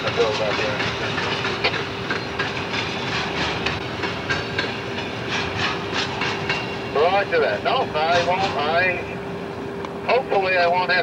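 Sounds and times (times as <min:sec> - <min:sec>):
train wheels clicking over rail joints: 0:00.0 - 0:09.0.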